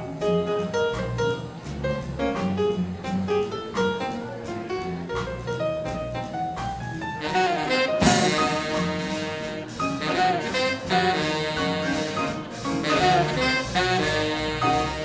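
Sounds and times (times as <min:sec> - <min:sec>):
big band swing jazz: 0:00.0 - 0:15.0.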